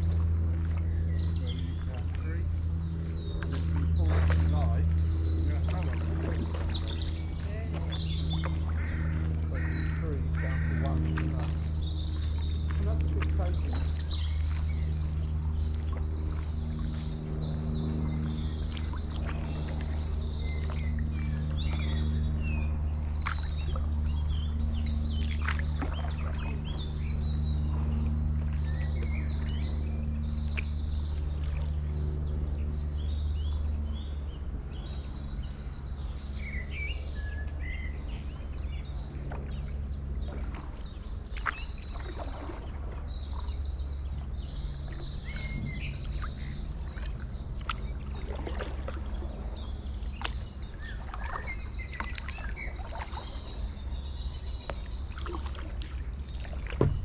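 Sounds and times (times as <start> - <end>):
small songbirds singing: 0.0 - 57.0
steady low hum: 0.0 - 57.0.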